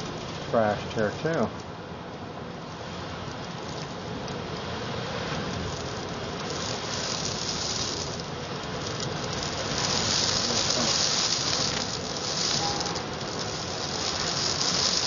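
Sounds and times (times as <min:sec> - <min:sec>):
wind driving sand against windows: 0:00.0 - 0:15.0.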